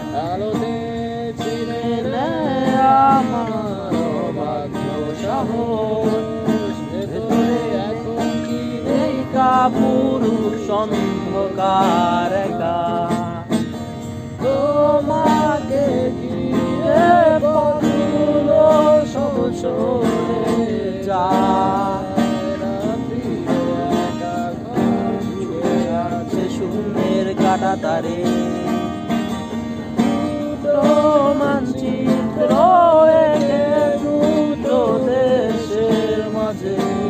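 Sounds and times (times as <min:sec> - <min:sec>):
man singing slow melody: 0:00.0 - 0:37.0
strummed acoustic guitar: 0:00.0 - 0:37.0.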